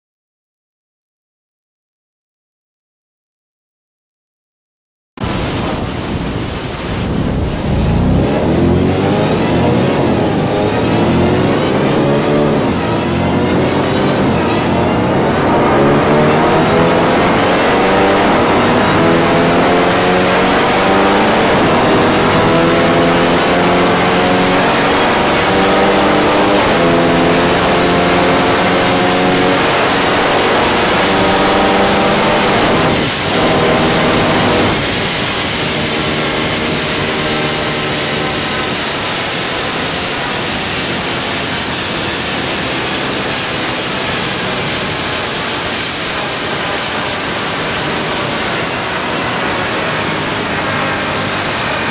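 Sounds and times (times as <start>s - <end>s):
loud engine running under load: 5.2s - 51.9s.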